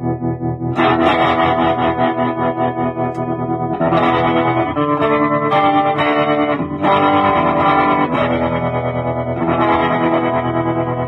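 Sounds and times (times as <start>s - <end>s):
electric guitar ringing chords: 0.0s - 11.0s.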